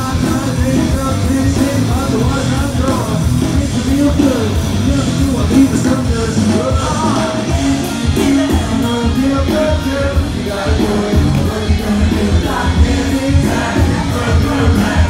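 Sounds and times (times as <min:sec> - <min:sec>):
live rock band playing: 0:00.0 - 0:15.0
person singing: 0:00.0 - 0:15.0
pulsing bass line: 0:00.0 - 0:15.0.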